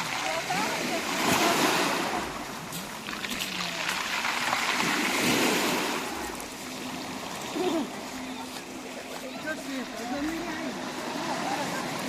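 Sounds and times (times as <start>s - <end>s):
sea waves on shore: 0.0s - 12.0s.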